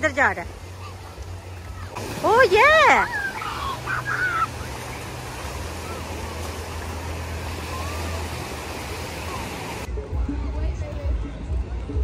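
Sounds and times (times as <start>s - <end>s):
small waves washing over sand: 0.0s - 9.9s.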